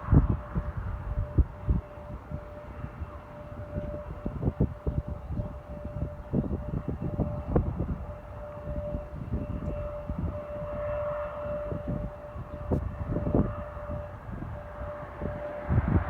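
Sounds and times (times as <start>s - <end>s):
airplane engines running: 0.0s - 16.0s
wind buffeting microphone: 0.0s - 16.0s.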